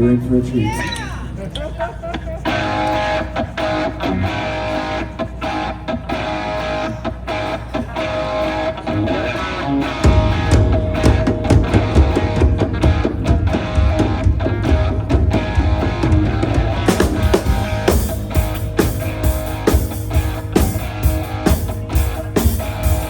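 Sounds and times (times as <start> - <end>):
drums: 2.1 - 23.0
bass guitar: 2.5 - 23.0
electric guitar melody: 2.5 - 23.0.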